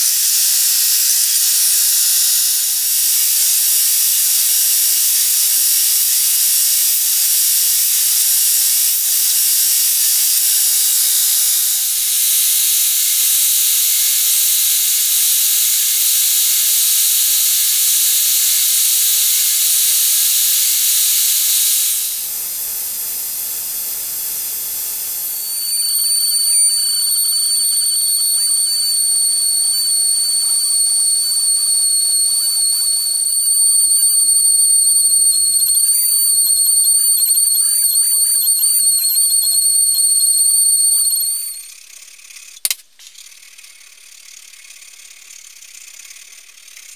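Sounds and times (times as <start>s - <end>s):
rotary tool high-pitched whine: 0.0s - 46.9s.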